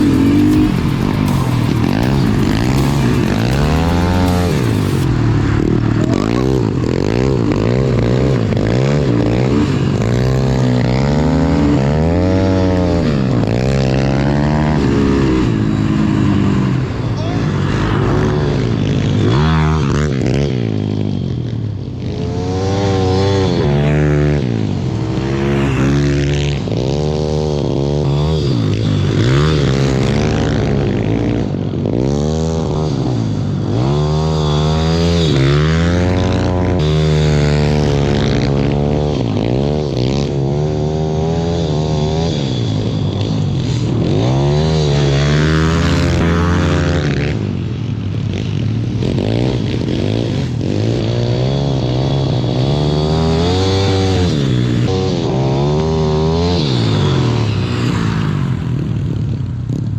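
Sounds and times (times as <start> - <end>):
pit bike engine revving: 0.0 - 59.9.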